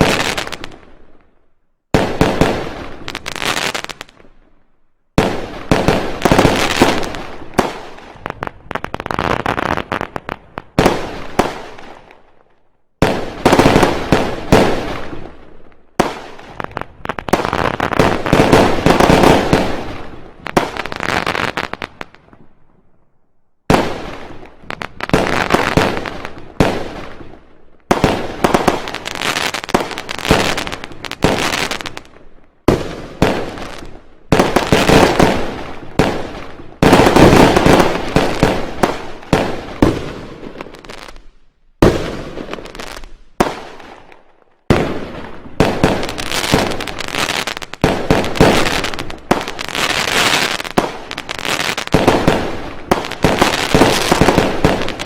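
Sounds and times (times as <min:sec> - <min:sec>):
fireworks and firecrackers banging: 0:00.0 - 0:22.6, 0:23.6 - 0:55.0.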